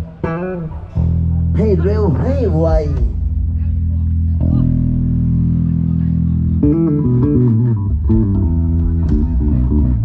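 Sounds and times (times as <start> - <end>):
electric bass guitar notes: 0.0 - 10.0.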